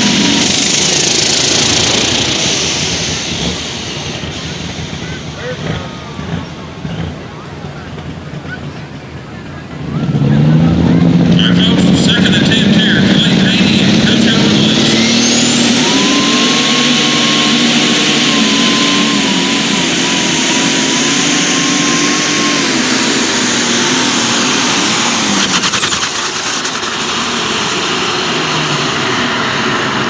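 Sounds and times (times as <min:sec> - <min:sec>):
high steady whine: 0:00.0 - 0:30.0
pulling engine running flat out: 0:00.0 - 0:30.0.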